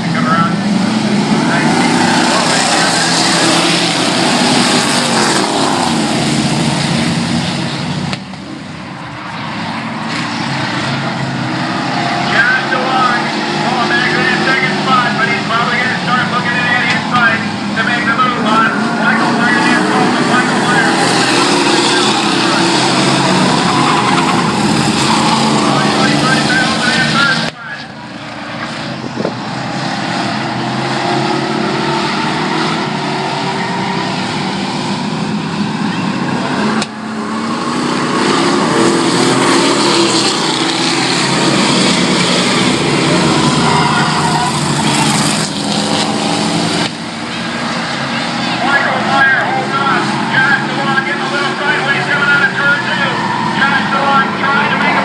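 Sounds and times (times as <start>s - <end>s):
racing truck engines passing by: 0.0s - 55.0s.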